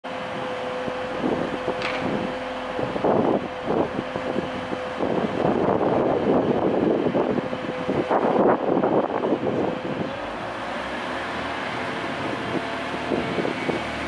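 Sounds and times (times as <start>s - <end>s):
train engine hum: 0.0s - 14.0s
wind buffeting microphone: 0.2s - 14.0s.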